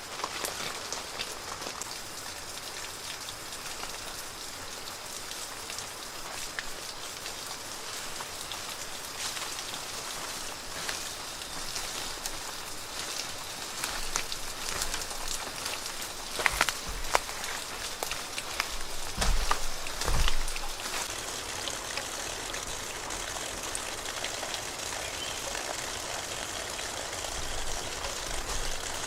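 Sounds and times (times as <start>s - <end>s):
falling water pattering: 0.0s - 29.0s.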